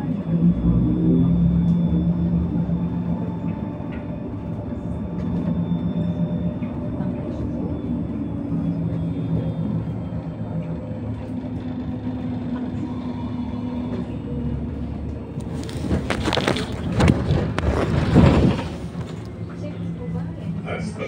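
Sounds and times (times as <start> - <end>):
road rumble: 0.0 - 21.0.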